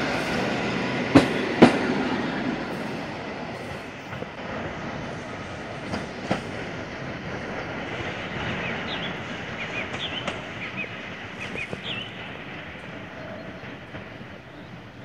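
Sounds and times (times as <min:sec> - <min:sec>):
train running past: 0:00.0 - 0:15.0
train wheels clunking over rail joints: 0:00.0 - 0:15.0.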